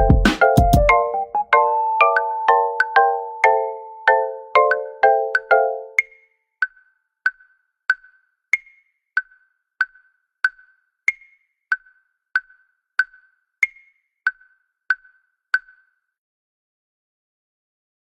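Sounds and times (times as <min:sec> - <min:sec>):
electronic metronome ticking: 0:00.0 - 0:15.8.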